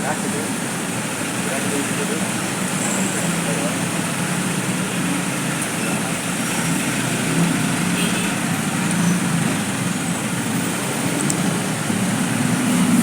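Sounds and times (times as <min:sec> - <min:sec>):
road noise: 0:00.0 - 0:13.0
motorcycle engine: 0:02.5 - 0:13.0.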